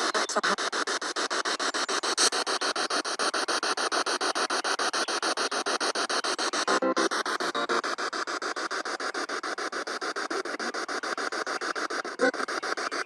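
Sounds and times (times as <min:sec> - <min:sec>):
radio static in rapid pulses: 0:00.0 - 0:13.0.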